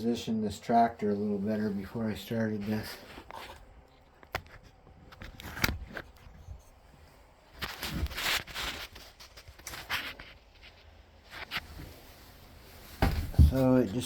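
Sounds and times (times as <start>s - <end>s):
rustling and scraping: 1.3s - 14.0s.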